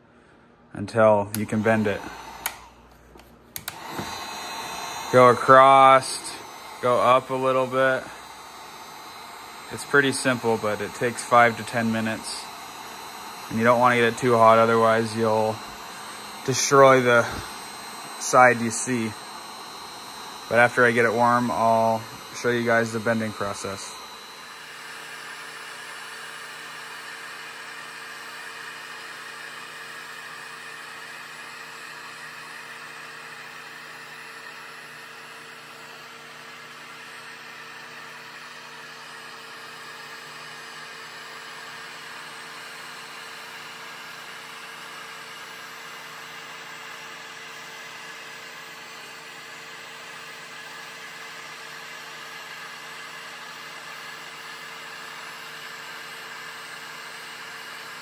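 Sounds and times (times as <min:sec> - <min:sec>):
heat gun fan blowing: 0:00.0 - 0:58.0.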